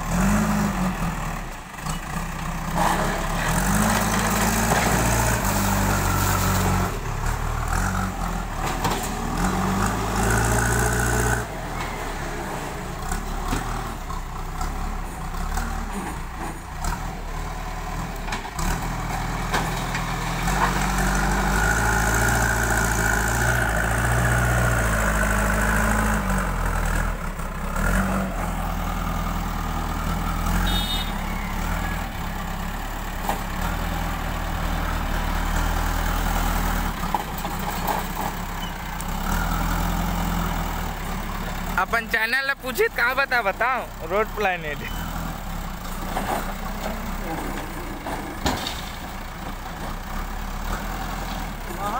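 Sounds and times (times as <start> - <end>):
diesel engine under load: 0.0 - 51.9.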